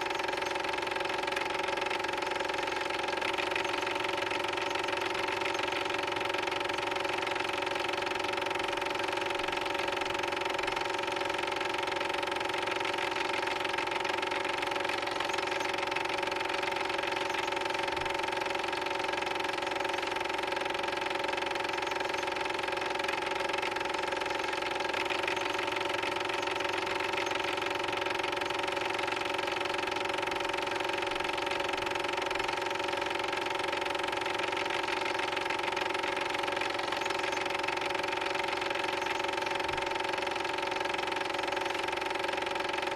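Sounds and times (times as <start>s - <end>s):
film projector whirring: 0.0s - 42.9s.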